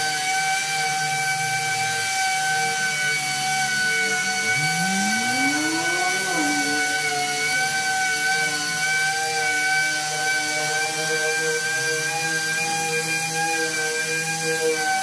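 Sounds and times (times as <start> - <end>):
palm sander high whine: 0.8 - 14.6.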